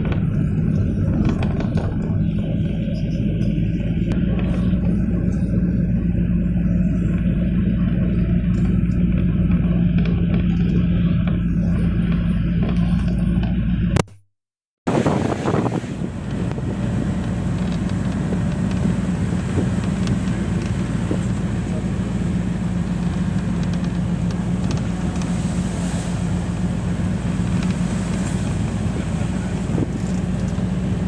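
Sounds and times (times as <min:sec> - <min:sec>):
vehicle engine and road drone: 0:00.0 - 0:14.1, 0:14.9 - 0:31.0.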